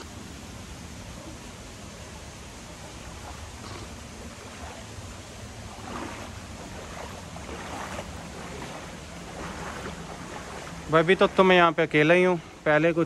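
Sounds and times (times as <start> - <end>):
river rushing: 0.0 - 13.0
wading splashes: 0.0 - 13.0.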